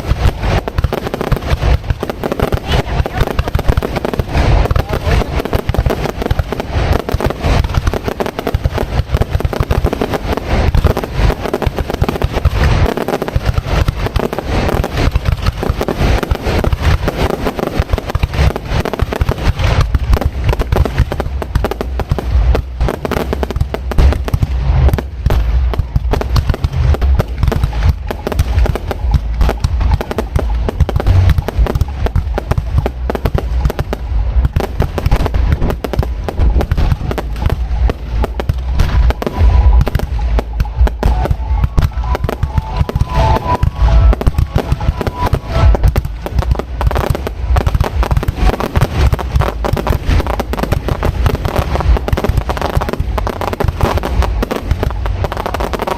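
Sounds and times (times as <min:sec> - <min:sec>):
fireworks bursts and crackling: 0:00.0 - 0:55.9.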